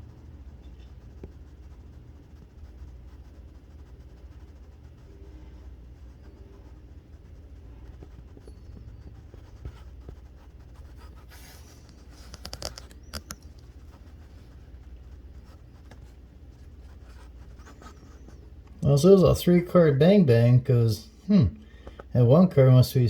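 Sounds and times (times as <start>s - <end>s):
scratching and rubbing on phone: 0.0s - 19.7s
steady low hum: 0.0s - 23.0s.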